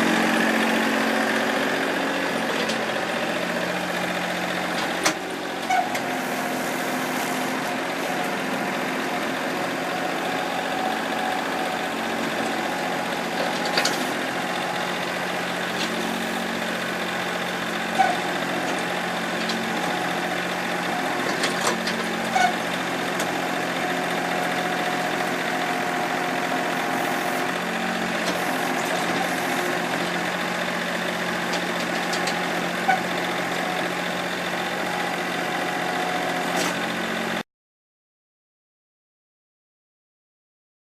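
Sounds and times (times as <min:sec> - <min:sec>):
tractor engine running: 0:00.0 - 0:37.4.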